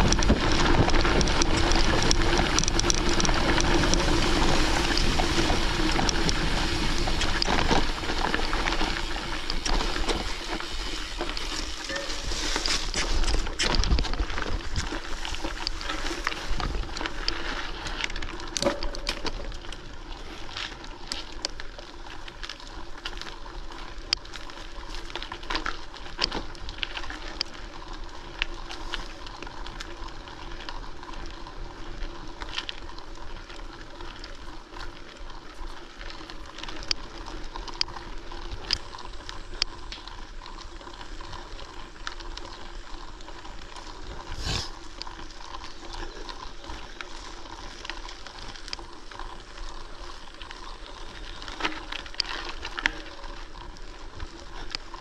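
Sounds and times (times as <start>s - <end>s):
bike clicks and rattles: 0.0s - 55.0s
bike tyres on gravel: 0.0s - 55.0s.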